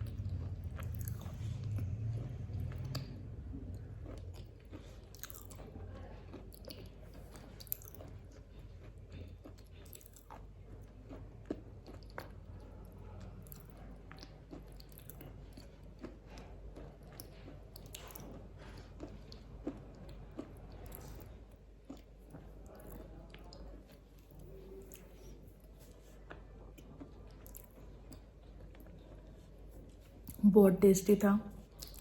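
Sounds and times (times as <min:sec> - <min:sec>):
chewing crunchy wafer: 0:00.0 - 0:30.4, 0:31.6 - 0:32.0.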